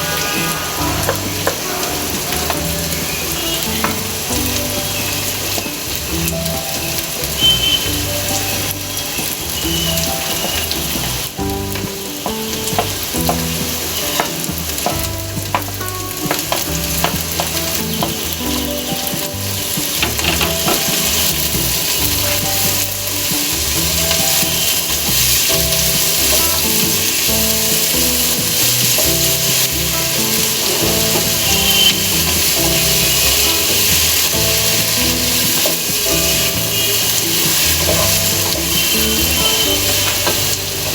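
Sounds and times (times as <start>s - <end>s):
spatula scraping a pan: 0.0s - 5.8s, 6.5s - 40.9s
vegetables sizzling in oil: 0.0s - 40.9s.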